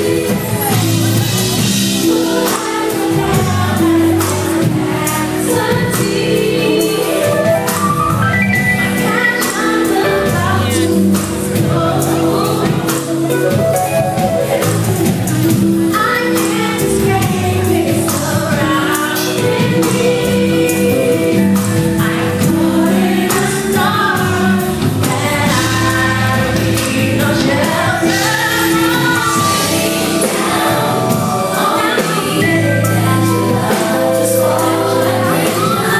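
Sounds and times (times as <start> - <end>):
women singing in harmony: 0.0 - 13.4, 14.4 - 35.9
live band with keyboards: 0.0 - 35.9.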